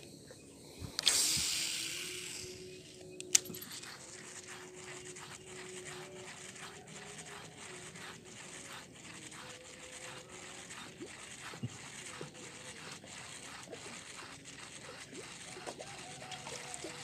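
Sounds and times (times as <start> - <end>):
fishing reel rasping: 1.0 - 17.0.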